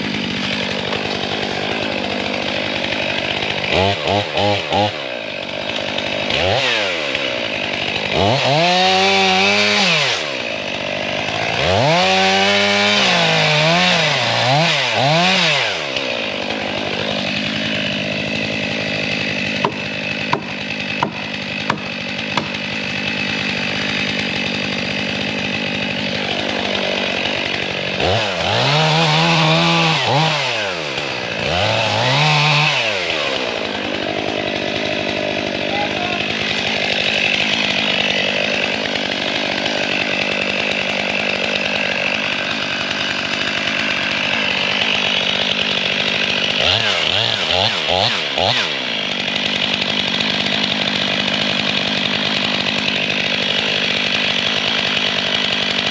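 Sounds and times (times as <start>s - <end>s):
chainsaw cutting into tree: 0.0s - 55.9s.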